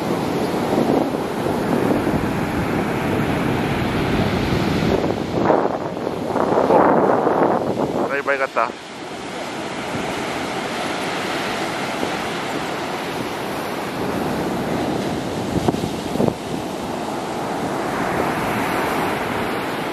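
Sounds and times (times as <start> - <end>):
heavy surf breaking on beach: 0.0 - 19.9.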